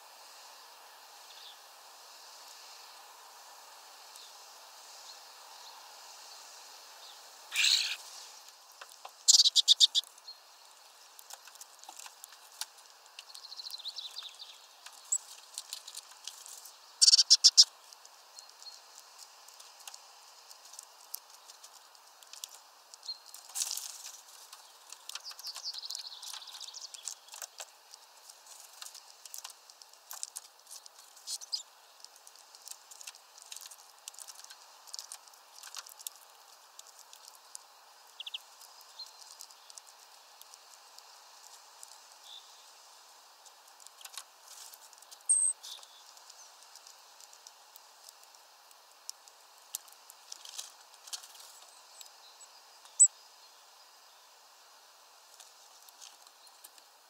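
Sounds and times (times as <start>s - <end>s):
songbirds chirping: 4.0s - 57.0s.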